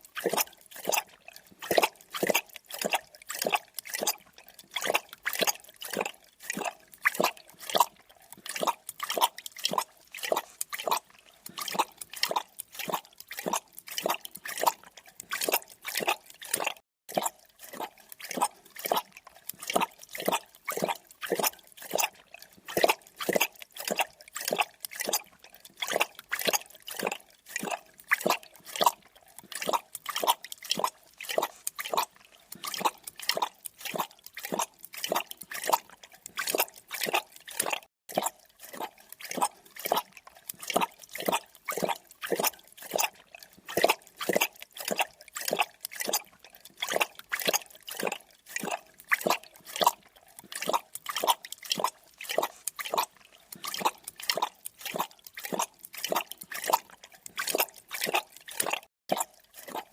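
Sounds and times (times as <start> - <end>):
wet lapping of liquid: 0.0 - 59.9.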